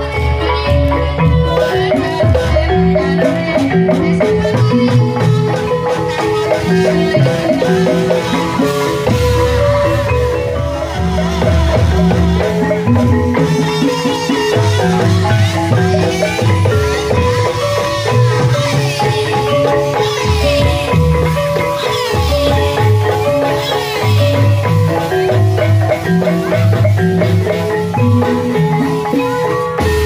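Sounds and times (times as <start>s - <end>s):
gamelan music: 0.0s - 30.0s.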